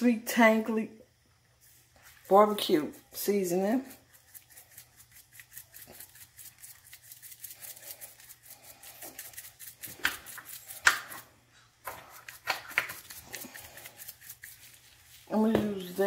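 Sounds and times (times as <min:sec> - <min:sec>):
seasoning bottle rattling: 0:02.1 - 0:11.2, 0:11.9 - 0:16.0.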